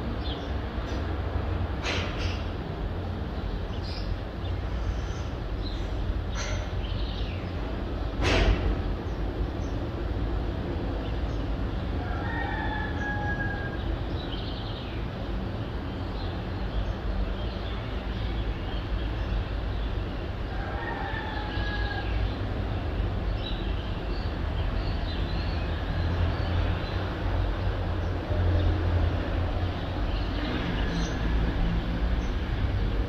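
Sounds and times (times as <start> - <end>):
low city rumble: 0.0 - 33.0.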